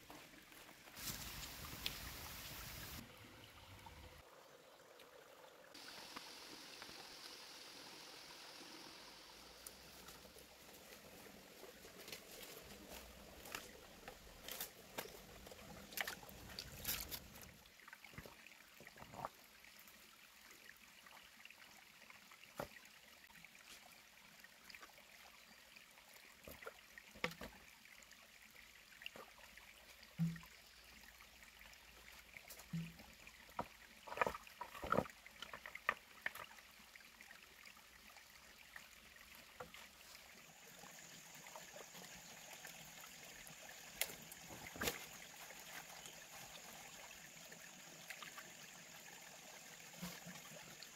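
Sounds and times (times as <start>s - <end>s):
faint trickling water: 0.0s - 50.9s.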